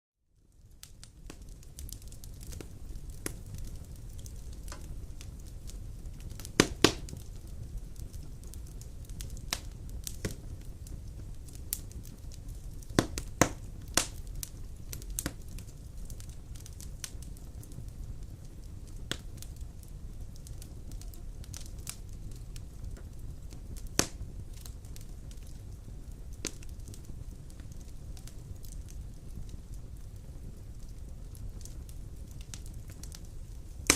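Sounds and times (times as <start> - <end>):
fire crackling and popping: 0.3 - 33.9
wood fire rumbling: 0.4 - 33.9.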